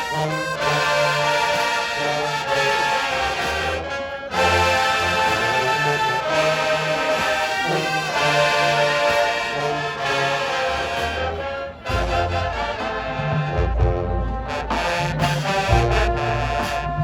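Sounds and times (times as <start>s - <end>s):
brass section playing chords: 0.0s - 17.0s
deep low brass notes: 0.0s - 17.0s.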